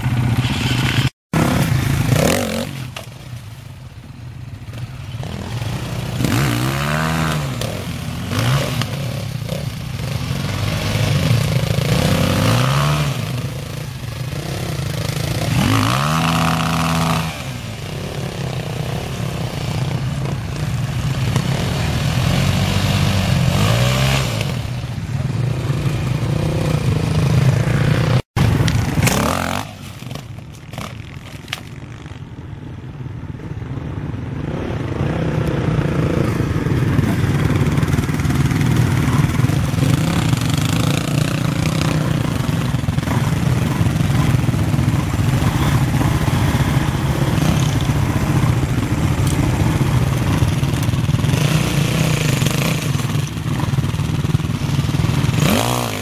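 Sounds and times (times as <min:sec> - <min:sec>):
bikes churning through mud: 0:00.0 - 0:03.7, 0:05.0 - 0:32.2, 0:35.1 - 0:56.0
dirt bike engines revving: 0:00.0 - 0:56.0.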